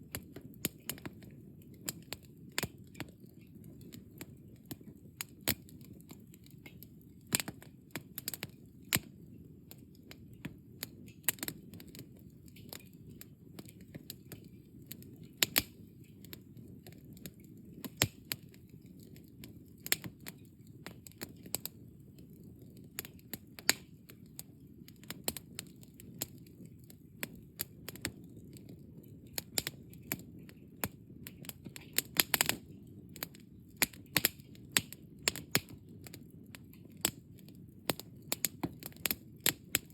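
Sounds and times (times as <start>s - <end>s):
campfire crackling and popping: 0.0s - 39.9s
low rumble of burning: 0.0s - 39.9s.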